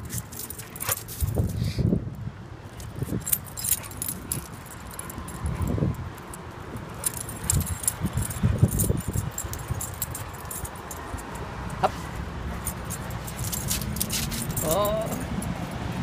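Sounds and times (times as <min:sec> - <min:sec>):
dog tags jingling: 0:00.0 - 0:01.6, 0:02.6 - 0:16.0.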